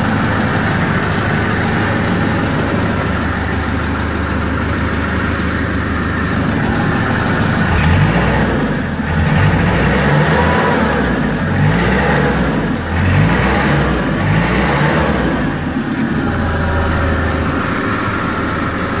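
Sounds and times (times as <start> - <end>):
forklift engine idling and revving: 0.0 - 19.0.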